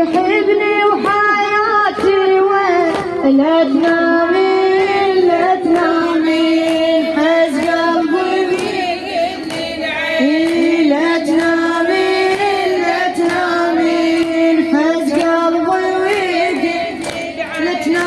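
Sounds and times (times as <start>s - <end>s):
woman singing a lament: 0.0s - 18.0s.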